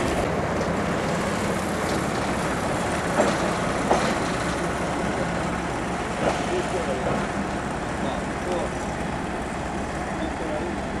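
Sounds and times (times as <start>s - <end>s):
diesel machinery noise: 0.0s - 11.0s.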